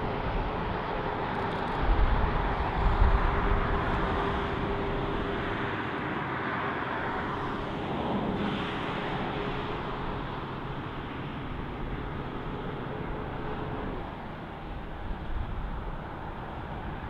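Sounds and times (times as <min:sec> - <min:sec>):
distant locomotive engine drone: 0:00.0 - 0:17.0
wind buffeting microphone: 0:00.0 - 0:17.0.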